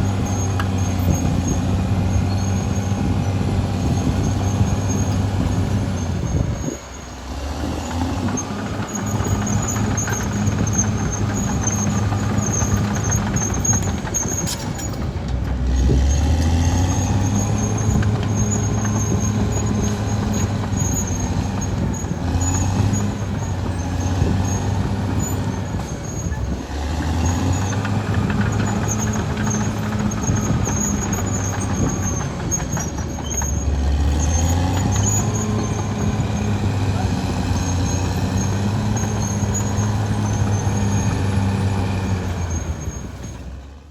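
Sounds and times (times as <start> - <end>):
high squeal: 0.0 - 43.6
bulldozer diesel engine: 0.0 - 43.9.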